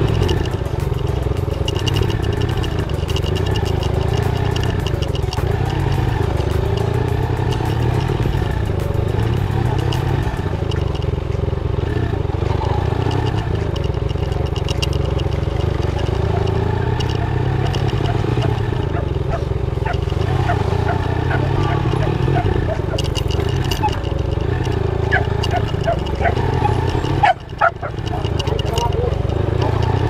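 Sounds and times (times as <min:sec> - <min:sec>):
clicks and rattles of bike: 0:00.0 - 0:30.0
motorcycle engine low rumble: 0:00.0 - 0:30.0.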